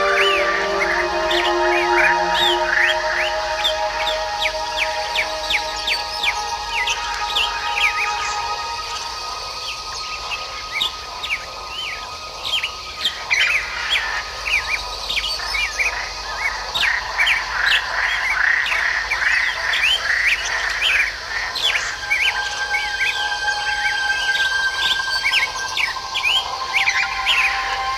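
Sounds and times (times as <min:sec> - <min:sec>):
small birds chirping and twittering: 0:00.0 - 0:27.9.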